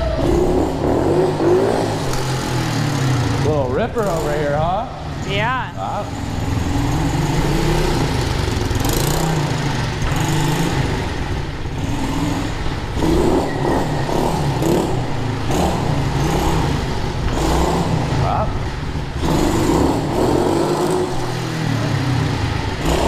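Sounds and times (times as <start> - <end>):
small motorbike engine revving: 0.0 - 23.0.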